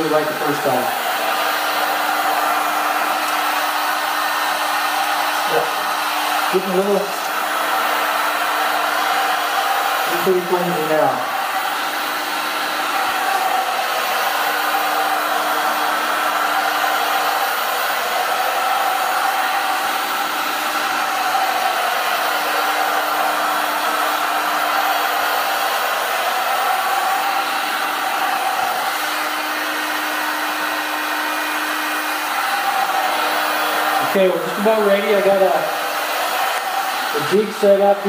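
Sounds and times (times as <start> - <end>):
heat gun blowing: 0.0 - 38.0.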